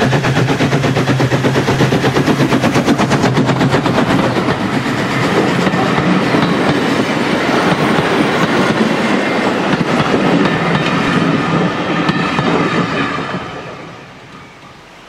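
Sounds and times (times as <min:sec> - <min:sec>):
train carriages rumbling past: 0:00.0 - 0:15.0.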